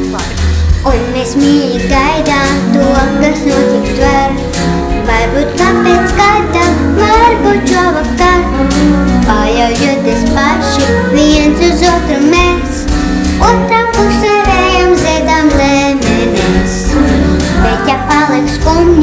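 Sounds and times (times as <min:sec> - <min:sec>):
instrumental accompaniment with beat: 0:00.0 - 0:19.0
girl singing with vibrato: 0:00.8 - 0:19.0.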